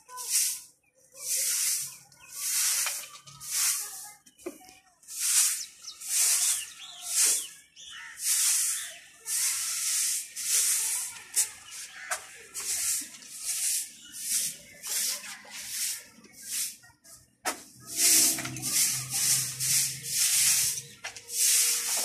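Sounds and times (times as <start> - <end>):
broom sweeping stone floor: 0.0 - 22.0.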